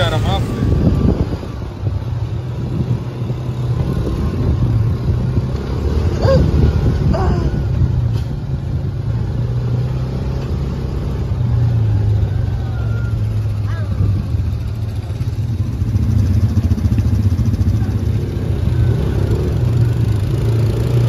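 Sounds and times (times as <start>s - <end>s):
engine running with low hum: 0.0s - 21.0s.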